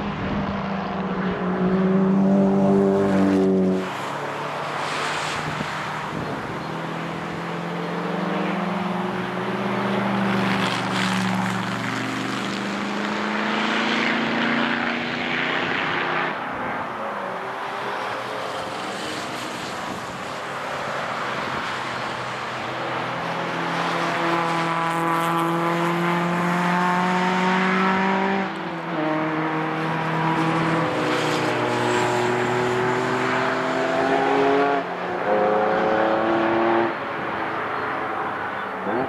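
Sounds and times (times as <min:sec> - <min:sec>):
racing car engines accelerating: 0:00.0 - 0:39.0.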